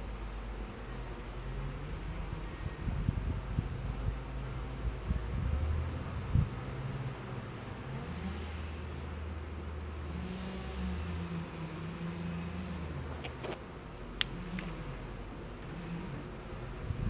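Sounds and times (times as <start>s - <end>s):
low engine-like hum: 0.0s - 17.0s.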